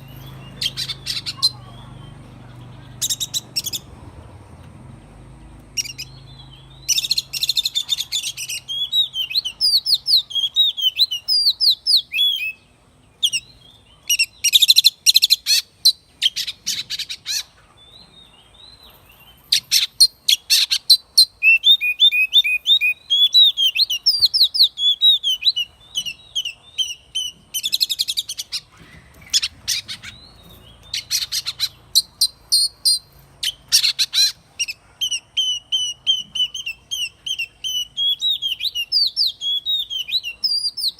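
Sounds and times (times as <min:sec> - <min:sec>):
bird singing whistles and trills: 0:02.8 - 0:03.8, 0:05.8 - 0:17.5, 0:18.3 - 0:40.9.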